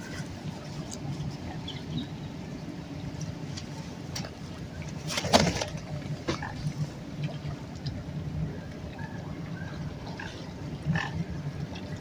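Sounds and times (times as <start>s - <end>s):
low steady rumble: 0.0s - 12.0s
soft water sounds: 0.0s - 12.0s.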